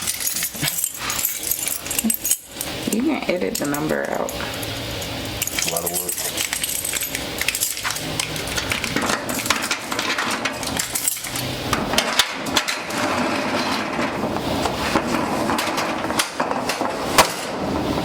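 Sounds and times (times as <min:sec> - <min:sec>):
hard objects knocking and clattering: 0:00.0 - 0:18.0.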